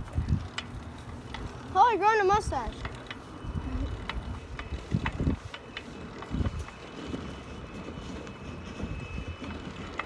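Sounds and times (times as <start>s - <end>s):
bicycle tyre and frame noise: 0.0s - 10.0s
wind rumbling on microphone: 0.0s - 10.0s.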